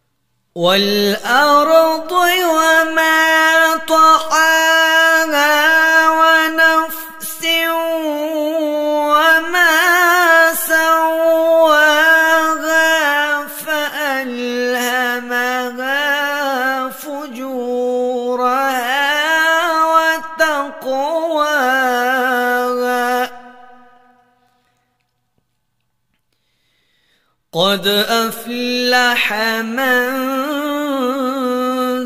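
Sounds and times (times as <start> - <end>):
solo voice chanting: 0.6 - 24.6, 27.6 - 32.0.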